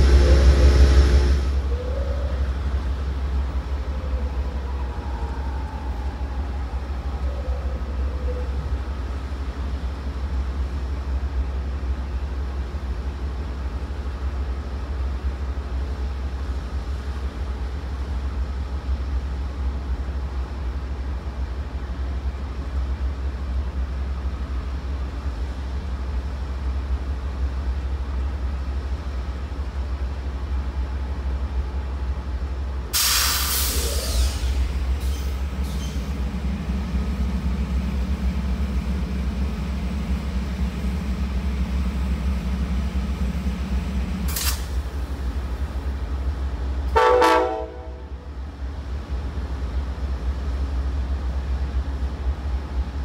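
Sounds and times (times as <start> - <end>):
diesel locomotive idling: 0.0 - 53.0.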